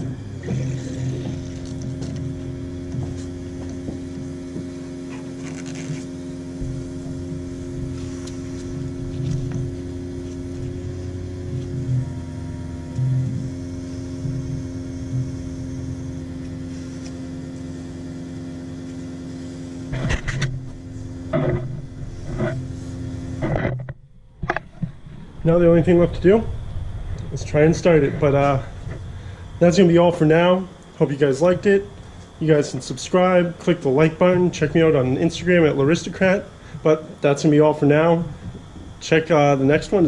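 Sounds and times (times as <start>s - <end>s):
electric fuel pump humming: 0.0s - 40.0s.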